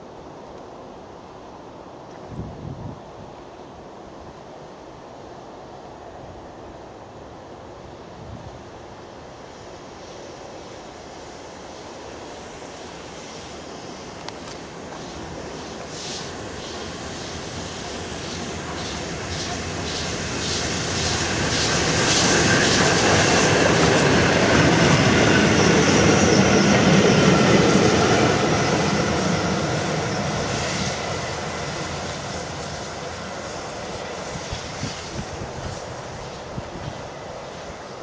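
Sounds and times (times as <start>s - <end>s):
steam train passing at speed: 0.0s - 38.0s.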